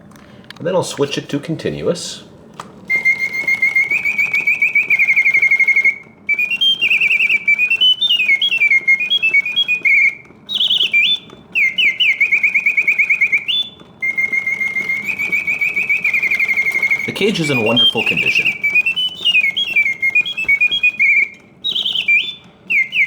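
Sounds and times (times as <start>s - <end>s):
mechanical bird whistle warbling trills: 2.9s - 23.0s.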